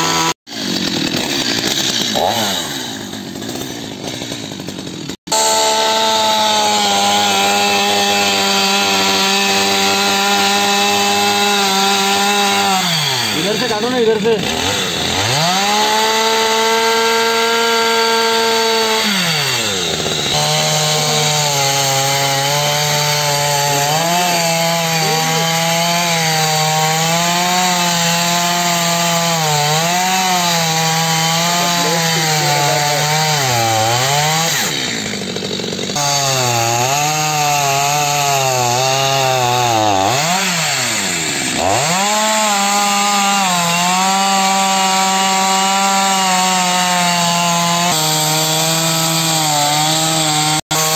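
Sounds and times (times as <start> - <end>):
chainsaw cutting tree trunk: 0.0 - 50.9.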